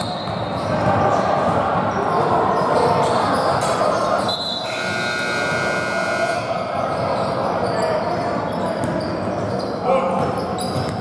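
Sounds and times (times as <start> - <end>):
basketball game in echoing gym: 0.0 - 11.0.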